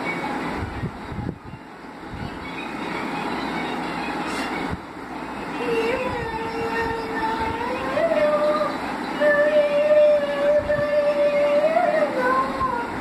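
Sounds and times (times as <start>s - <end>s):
steady rumbling: 0.0s - 13.0s.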